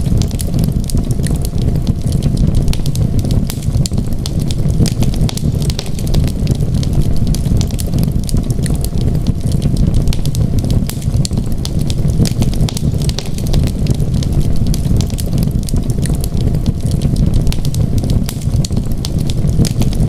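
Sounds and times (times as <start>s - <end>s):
low rumble: 0.0s - 20.0s
wood fire crackling: 0.0s - 20.0s.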